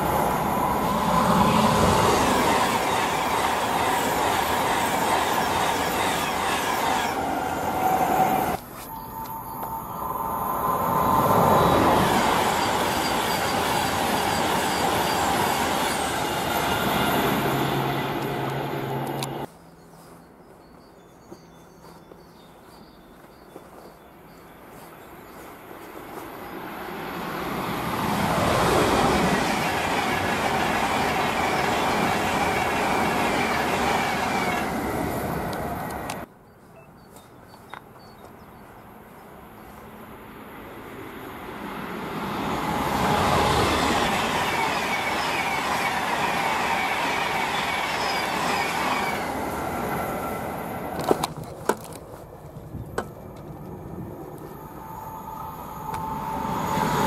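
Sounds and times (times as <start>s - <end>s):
trains passing at speed: 0.0s - 20.2s, 21.8s - 36.3s, 38.2s - 57.0s.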